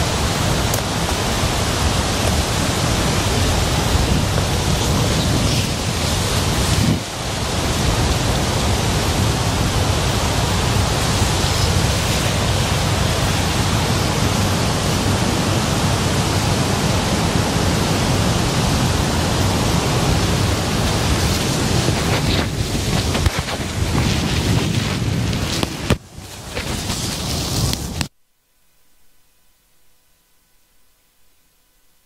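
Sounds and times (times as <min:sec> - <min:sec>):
strong wind buffeting microphone: 0:00.0 - 0:28.1
wind through trees: 0:00.0 - 0:32.0.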